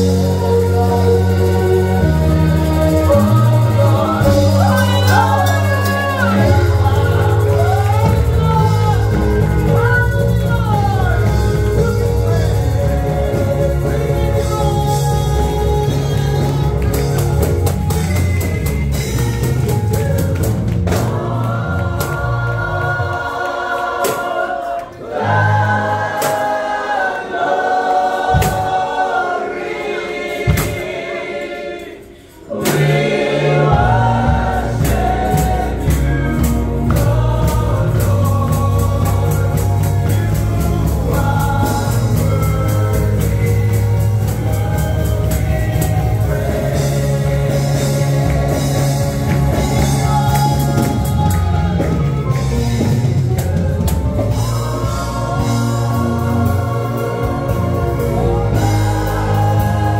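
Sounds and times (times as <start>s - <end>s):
bass: 0.0s - 59.9s
choir singing gospel song: 0.0s - 59.9s
drums steady beat: 0.0s - 59.9s.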